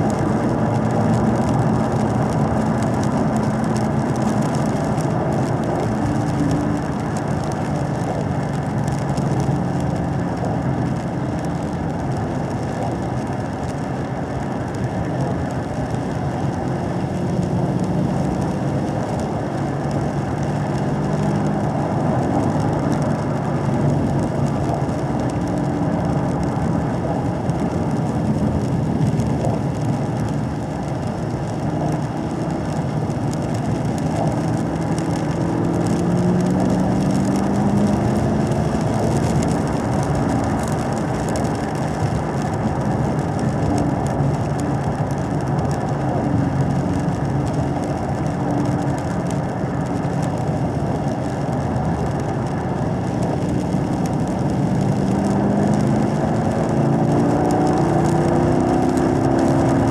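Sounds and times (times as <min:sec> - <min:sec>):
car engine running steadily: 0:00.0 - 0:59.9.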